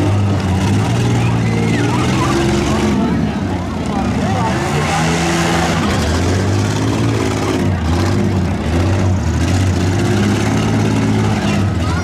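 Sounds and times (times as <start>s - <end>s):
car engines running under load: 0.0s - 12.0s.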